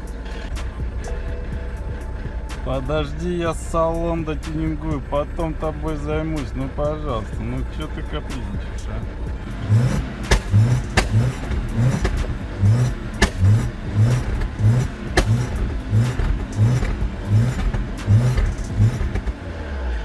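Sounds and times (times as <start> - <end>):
engine knocking: 0.0 - 20.0
engine running rough: 0.0 - 20.0.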